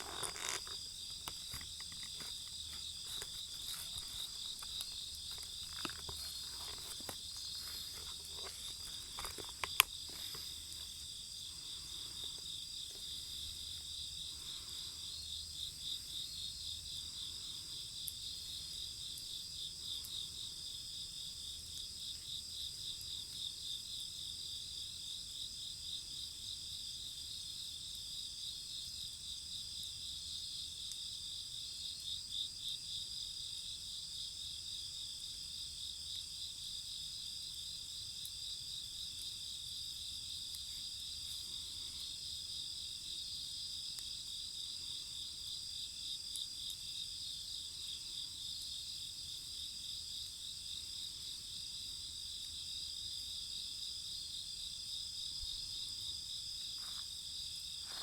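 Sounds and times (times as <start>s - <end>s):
crickets and night insects trilling: 0.0s - 58.0s.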